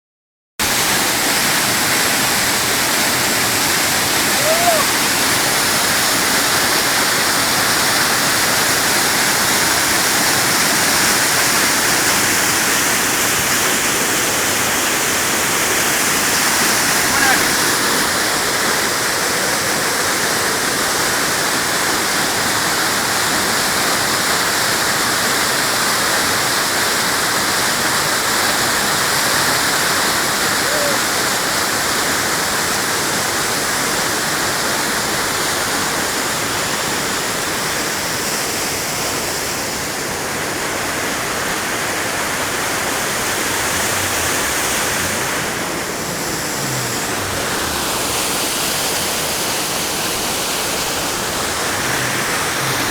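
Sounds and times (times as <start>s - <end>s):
waterfall rushing: 0.6s - 52.9s.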